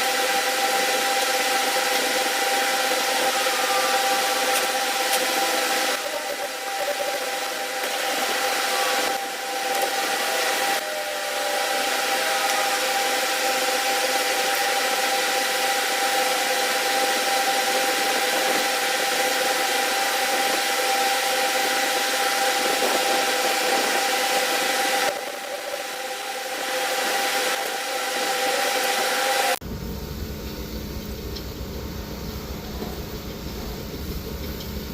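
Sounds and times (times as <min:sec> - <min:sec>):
machine humming: 0:00.0 - 0:34.9.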